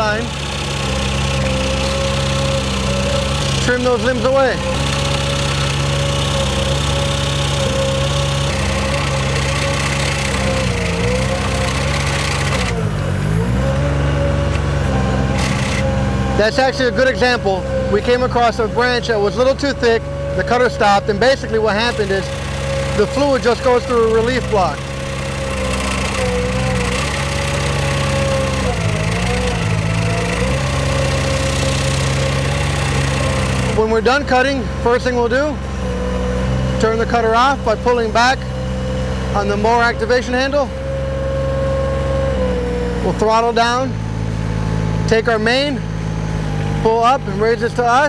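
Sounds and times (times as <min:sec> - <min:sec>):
boat engine running under load: 0:00.0 - 0:48.0
cutter trimming tree limbs: 0:00.0 - 0:48.0.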